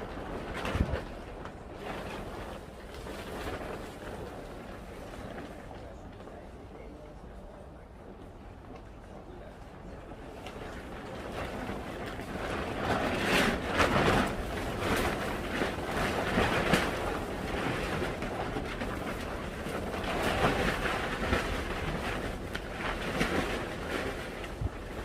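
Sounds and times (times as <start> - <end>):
wind blowing across microphone: 0.0 - 6.8, 8.2 - 25.0.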